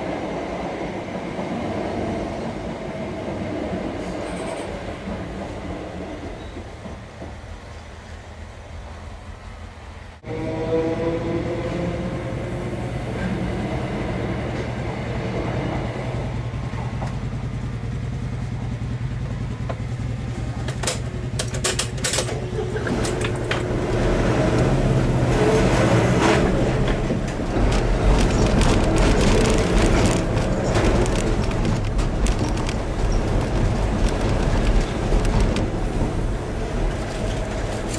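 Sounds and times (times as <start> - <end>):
passenger train passing: 0.0 - 37.9
road noise: 0.0 - 37.9.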